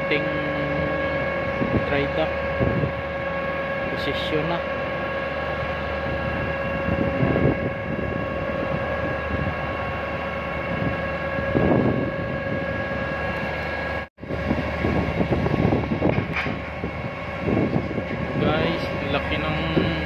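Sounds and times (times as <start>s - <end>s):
constant machine whine: 0.0s - 20.0s
industrial machinery hum: 0.0s - 20.0s
wind on microphone: 0.0s - 20.0s.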